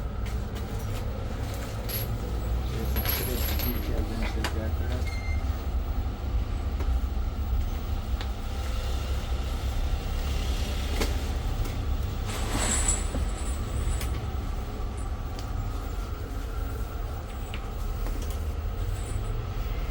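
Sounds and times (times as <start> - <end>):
vehicle rumble: 0.0 - 19.9.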